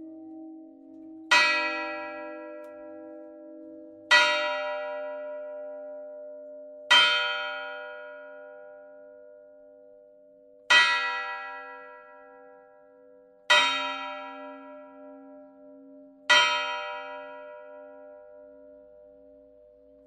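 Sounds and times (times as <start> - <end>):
church bell tolling: 0.0 - 20.0.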